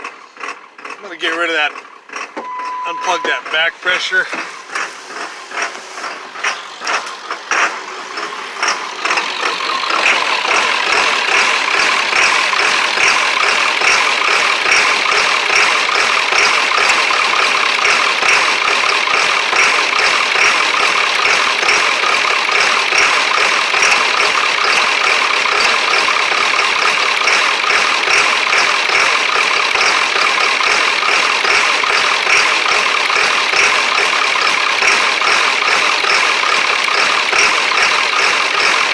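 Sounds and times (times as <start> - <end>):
diesel engine running unevenly: 0.0 - 38.9.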